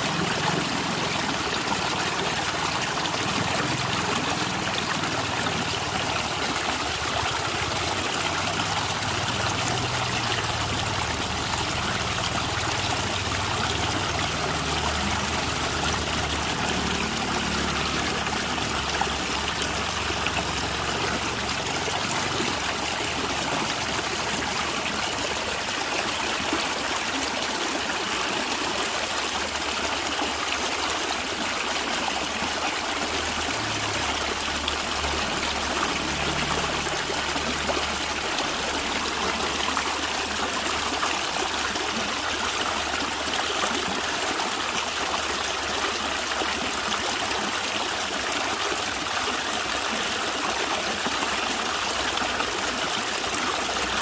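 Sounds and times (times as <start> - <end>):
stream flowing and gurgling: 0.0 - 54.0.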